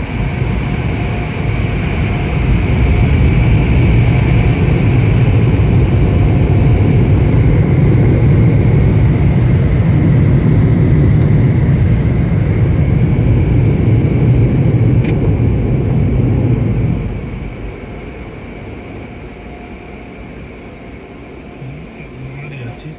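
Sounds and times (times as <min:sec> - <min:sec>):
faint machine whine: 0:00.0 - 0:22.9.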